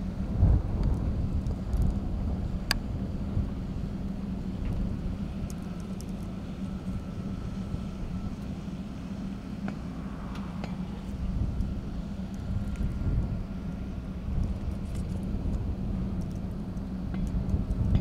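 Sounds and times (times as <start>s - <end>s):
engine idling rumble: 0.0s - 18.0s.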